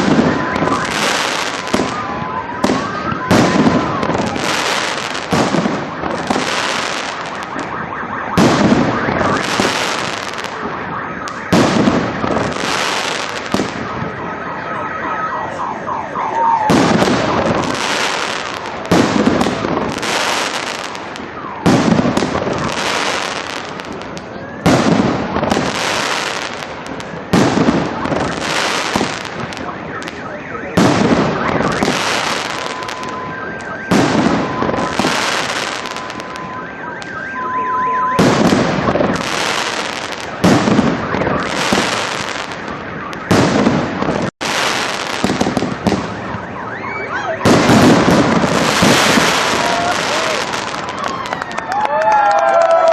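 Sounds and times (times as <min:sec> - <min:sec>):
fireworks bursting: 0:00.0 - 0:14.5, 0:16.2 - 0:46.6, 0:47.3 - 0:52.9.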